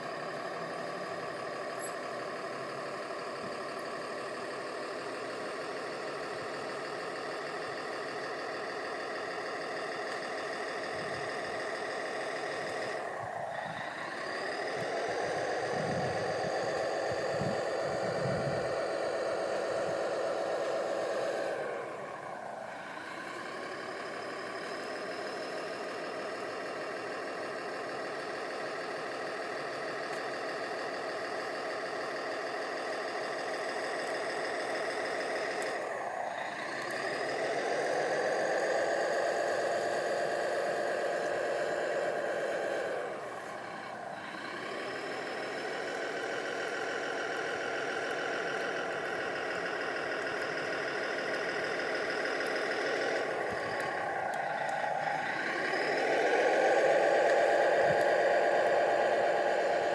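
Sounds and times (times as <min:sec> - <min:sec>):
model bulldozer mechanical whine: 0:00.0 - 0:59.9.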